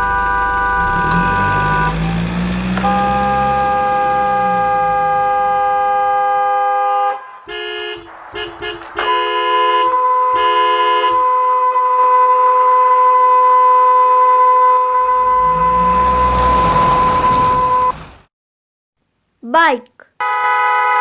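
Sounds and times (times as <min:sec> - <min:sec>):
car horn honking: 0:00.0 - 0:18.1, 0:20.2 - 0:21.0.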